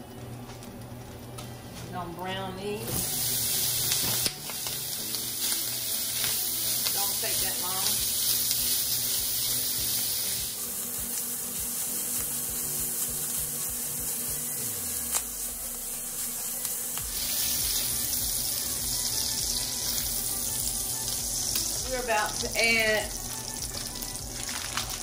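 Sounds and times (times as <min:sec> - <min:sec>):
sausage sizzling in hot oil: 0:02.9 - 0:25.0.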